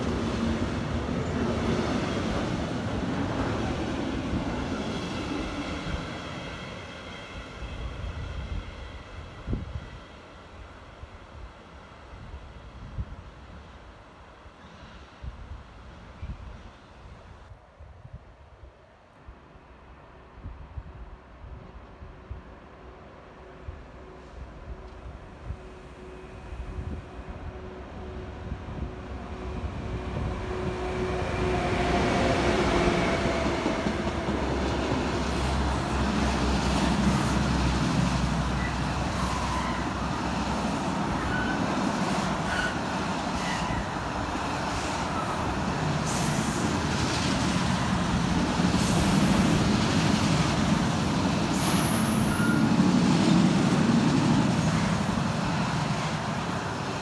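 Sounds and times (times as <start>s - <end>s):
electric train rumbling past: 0.0s - 17.4s, 21.2s - 57.0s.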